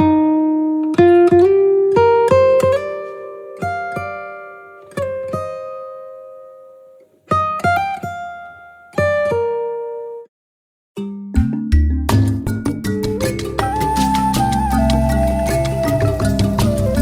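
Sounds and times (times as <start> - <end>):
plucked acoustic guitar: 0.0 - 10.2, 11.0 - 17.0.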